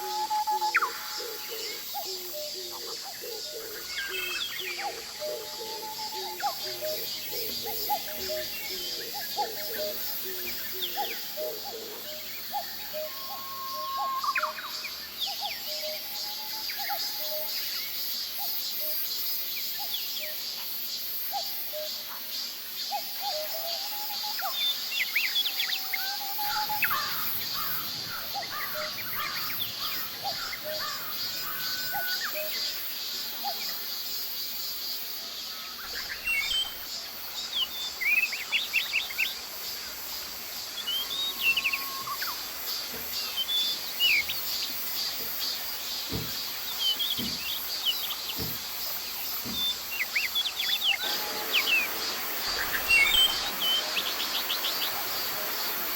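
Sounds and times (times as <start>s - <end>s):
insect drone: 0.0s - 55.9s
wild birds chirping: 0.0s - 55.9s.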